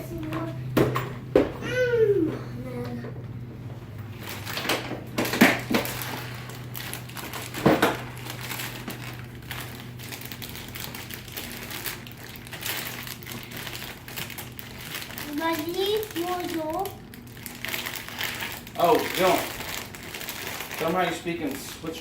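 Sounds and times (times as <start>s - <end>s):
low steady hum: 0.0s - 22.0s
plastic packaging crinkling: 4.2s - 22.0s.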